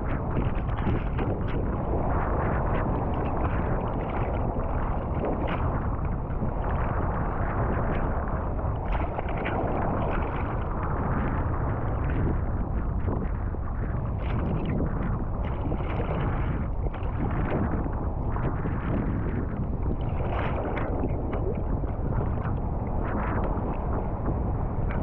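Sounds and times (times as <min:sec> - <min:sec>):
waves surging and splashing: 0:00.0 - 0:25.0
wind rushing over microphone: 0:00.0 - 0:25.0.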